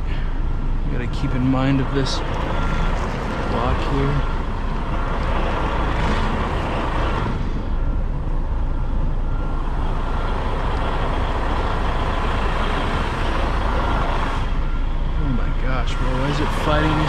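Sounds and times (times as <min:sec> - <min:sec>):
truck diesel engine rumbling: 0:00.0 - 0:17.0.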